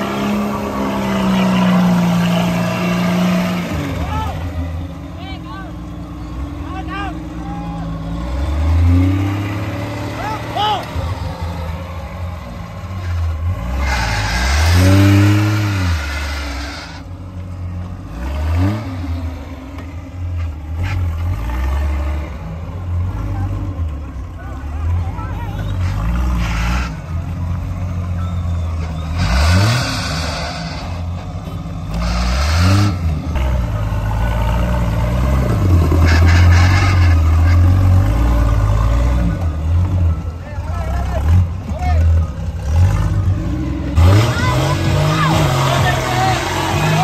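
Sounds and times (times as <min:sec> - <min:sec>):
off-road buggy engine revving: 0:00.0 - 0:47.0.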